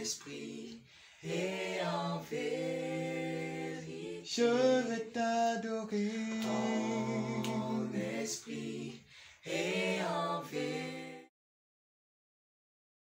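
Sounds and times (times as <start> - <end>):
group singing in harmony: 0.0 - 11.3.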